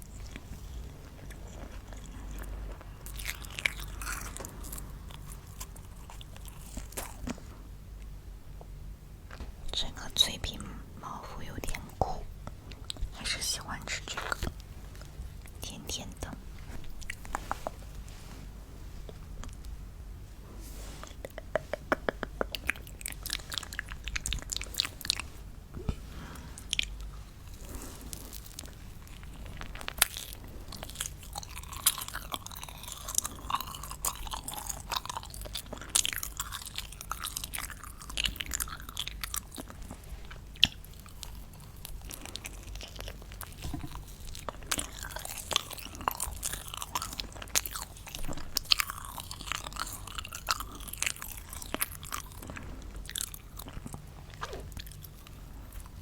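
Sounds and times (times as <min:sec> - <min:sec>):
crunching and chewing candy: 0:00.0 - 0:10.7, 0:11.4 - 0:18.0, 0:21.0 - 0:56.0.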